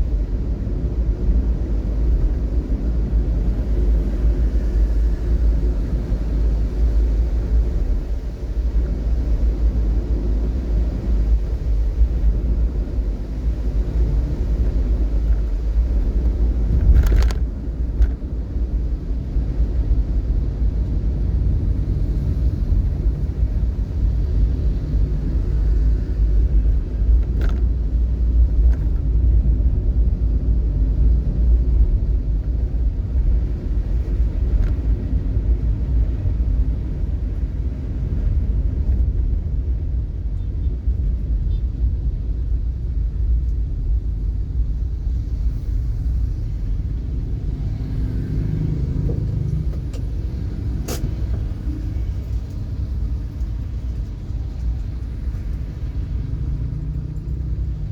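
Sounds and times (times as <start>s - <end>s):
vehicle engine and road noise: 0.0s - 57.9s.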